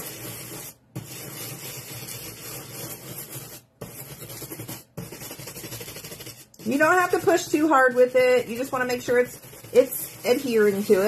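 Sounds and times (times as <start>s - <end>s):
scrub brush scrubbing foil: 0.0s - 11.0s.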